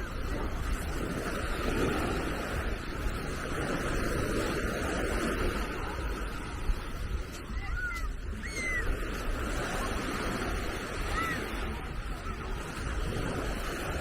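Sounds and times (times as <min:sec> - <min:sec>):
waves washing on sandy beach: 0:00.0 - 0:14.0
wind rumble on microphone: 0:00.0 - 0:14.0.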